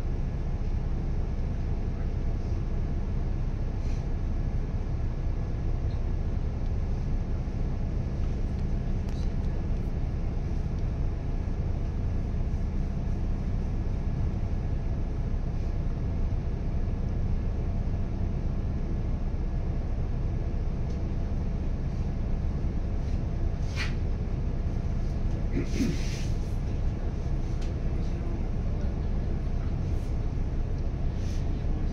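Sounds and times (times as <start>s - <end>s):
bus engine idling: 0.0s - 31.9s.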